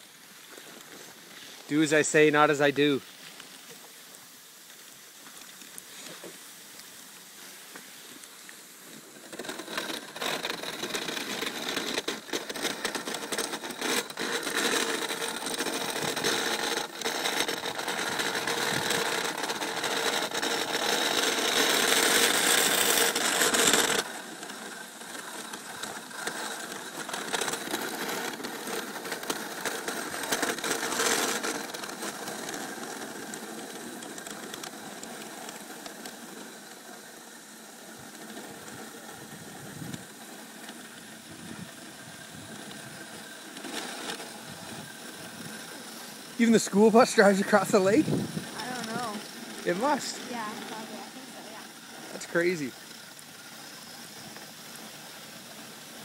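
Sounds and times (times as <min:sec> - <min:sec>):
sled rattling: 0:00.0 - 0:03.0, 0:08.4 - 0:56.0
sled runners scraping over snow: 0:00.0 - 0:56.0.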